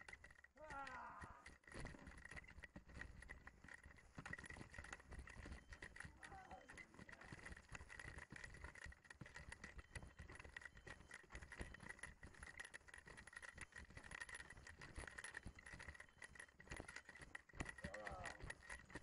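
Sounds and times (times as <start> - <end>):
hang glider frame rattling: 0.0 - 19.0.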